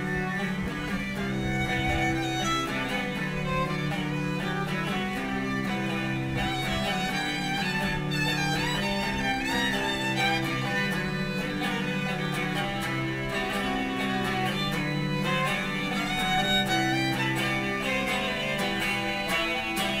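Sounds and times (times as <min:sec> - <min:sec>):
electric guitar: 0:00.0 - 0:20.0
violin melody: 0:00.0 - 0:20.0.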